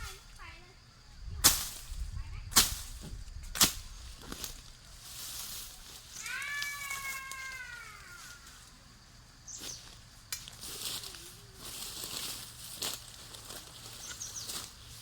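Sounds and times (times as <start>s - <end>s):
rustling hiss: 0.0s - 15.0s.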